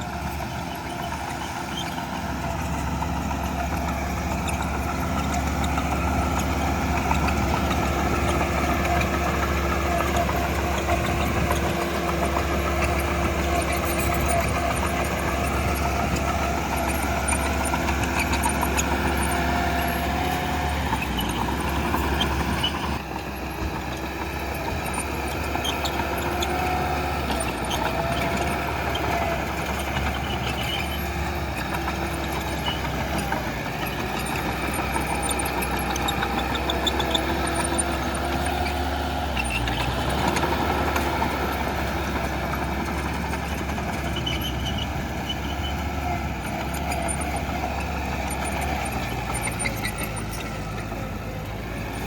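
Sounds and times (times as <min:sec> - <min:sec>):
bulldozer diesel engine running: 0:00.0 - 0:52.0
faint high squeaks and clicks: 0:00.0 - 0:52.0.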